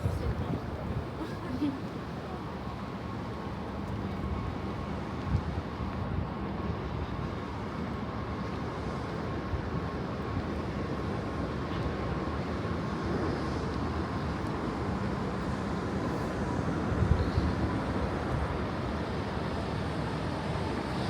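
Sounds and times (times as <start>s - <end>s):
city rumble: 0.0s - 21.0s.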